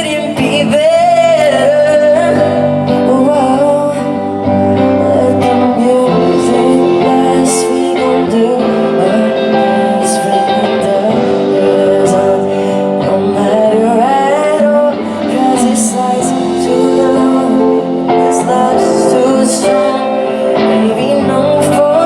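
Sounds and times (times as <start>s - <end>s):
guitar accompaniment: 0.0s - 22.0s
person singing: 0.0s - 22.0s.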